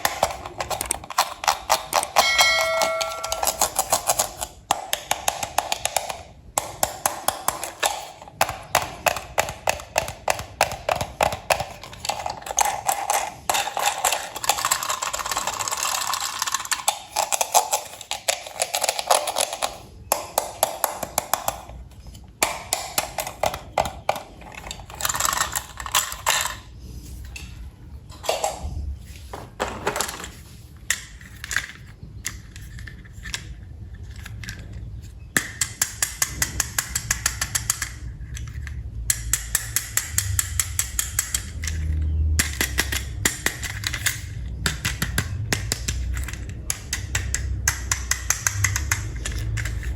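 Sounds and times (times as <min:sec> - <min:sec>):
plastic toy parts clicking: 0:00.0 - 0:26.7, 0:30.0 - 0:49.9.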